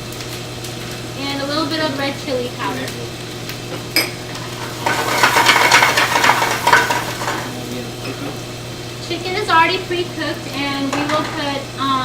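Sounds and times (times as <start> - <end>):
onions frying in oil: 0.0 - 12.0.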